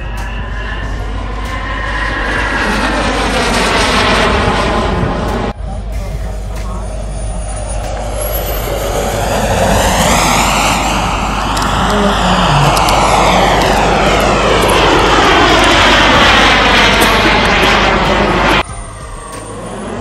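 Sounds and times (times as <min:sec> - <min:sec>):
model jet engine rushing past: 0:00.0 - 0:20.0.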